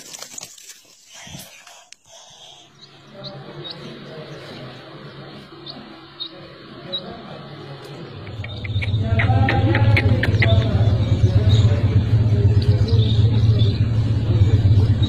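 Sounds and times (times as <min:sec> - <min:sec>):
chicks peeping: 0:01.2 - 0:15.0
low rumbling noise: 0:02.1 - 0:15.0.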